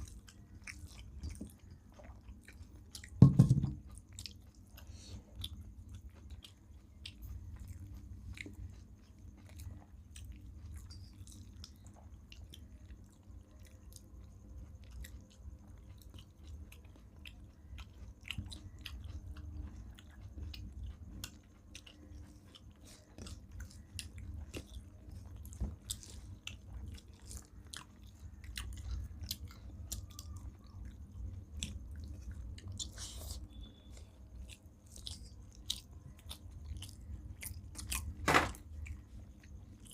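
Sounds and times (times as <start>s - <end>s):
people chewing food: 0.0s - 39.9s
steady low hum: 0.0s - 39.9s.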